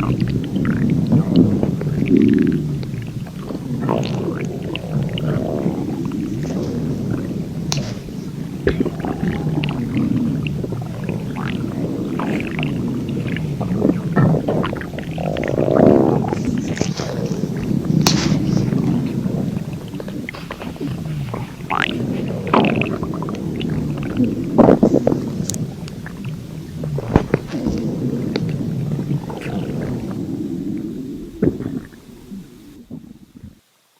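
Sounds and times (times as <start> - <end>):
sharp pops: 0.0 - 30.2
squeaky gurgles: 0.0 - 33.4
stomach growling: 0.0 - 33.6.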